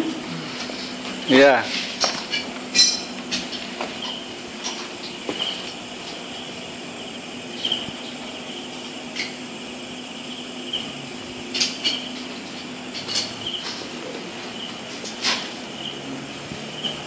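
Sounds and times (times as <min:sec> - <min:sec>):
steady low hum: 0:00.0 - 0:17.0
crickets chirping: 0:01.2 - 0:17.0.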